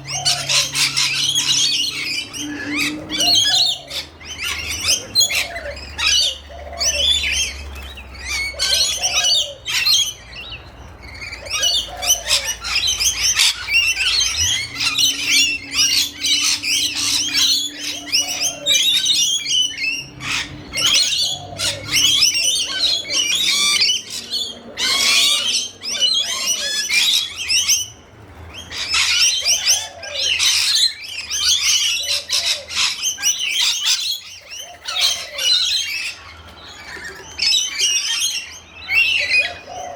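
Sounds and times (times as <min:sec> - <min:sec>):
lorikeets screeching and chattering: 0:00.0 - 0:39.9.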